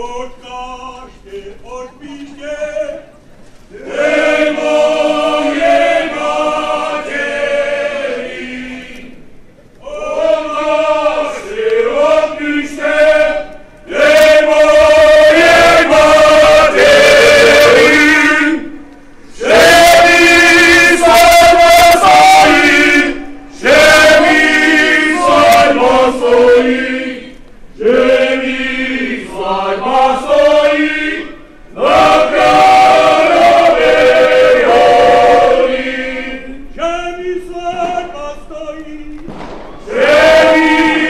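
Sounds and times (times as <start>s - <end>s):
male choir singing in unison: 3.7s - 9.1s, 9.8s - 18.7s, 19.3s - 41.0s.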